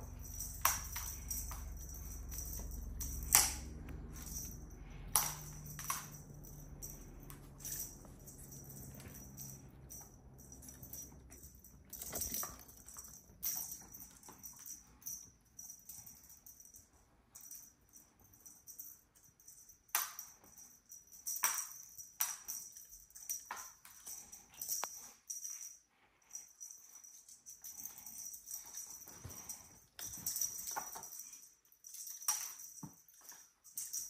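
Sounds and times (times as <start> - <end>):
toy and paws tapping on floor: 0.0 - 16.8, 17.4 - 25.7, 26.6 - 34.0.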